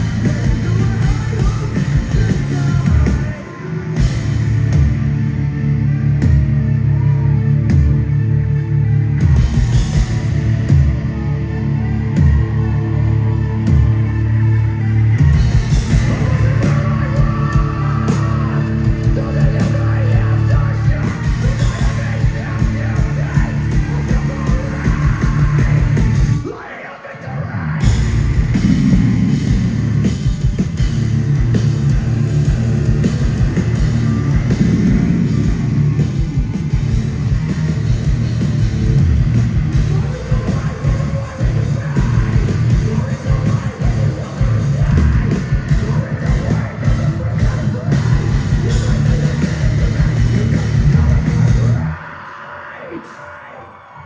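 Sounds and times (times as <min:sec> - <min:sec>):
live rock band playing: 0:00.0 - 0:52.3
distorted electric guitars: 0:00.0 - 0:54.0.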